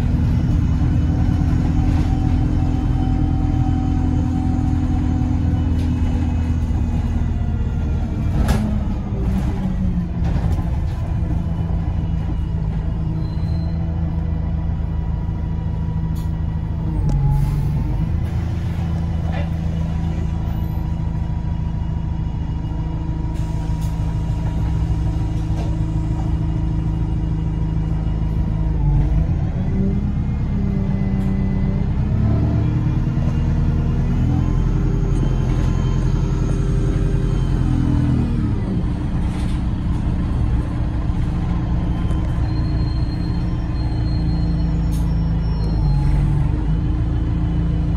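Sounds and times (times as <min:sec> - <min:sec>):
bus engine drone: 0:00.0 - 0:47.9.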